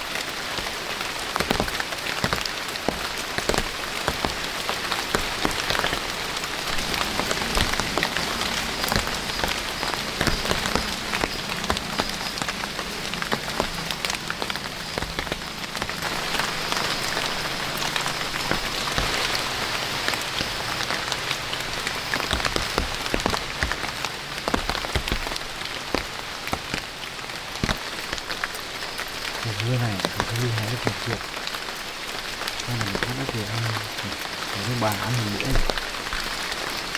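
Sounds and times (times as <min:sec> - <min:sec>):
rain drops pattering: 0:00.0 - 0:36.9.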